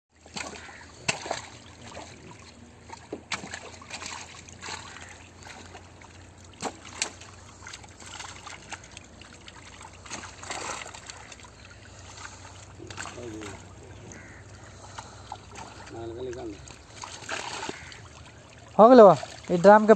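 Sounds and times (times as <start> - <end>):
fish splashing in water: 0.1 - 19.9.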